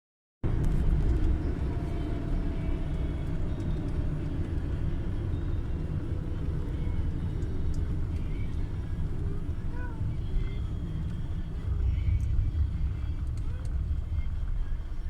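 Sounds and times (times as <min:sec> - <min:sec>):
car cabin rumble: 0:00.5 - 0:15.0.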